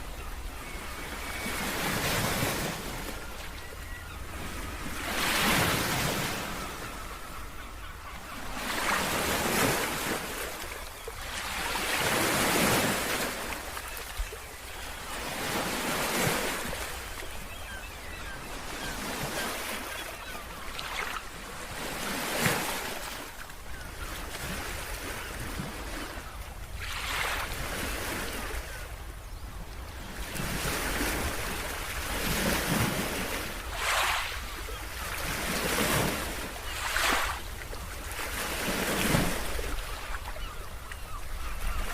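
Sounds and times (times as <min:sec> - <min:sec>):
ocean waves breaking on shore: 0:00.0 - 0:41.9.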